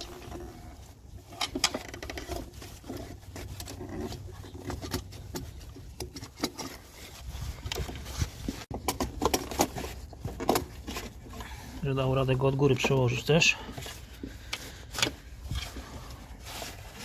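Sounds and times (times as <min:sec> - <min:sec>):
hose knocking and rubbing: 0:00.0 - 0:11.4, 0:12.4 - 0:17.0.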